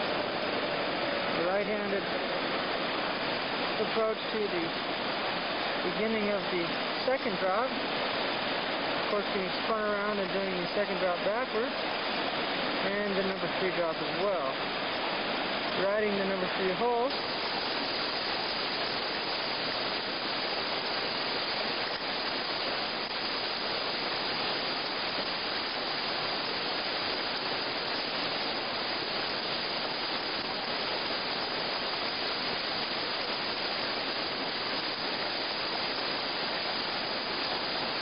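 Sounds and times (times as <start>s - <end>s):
whitewater rapids rushing: 0.0s - 38.0s.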